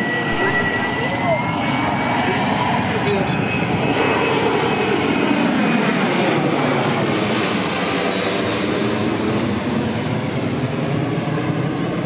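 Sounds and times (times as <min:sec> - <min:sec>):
jet engines roaring overhead: 0:00.0 - 0:12.0.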